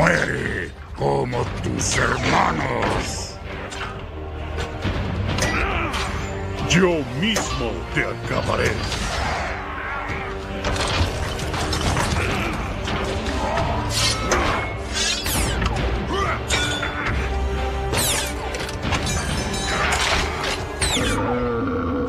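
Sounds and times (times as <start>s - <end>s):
orchestral film music: 0.0s - 22.0s.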